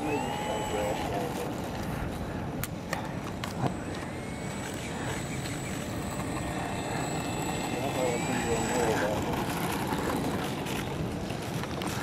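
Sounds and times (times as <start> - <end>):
model plane motor whine: 0.0 - 1.8, 3.3 - 11.6.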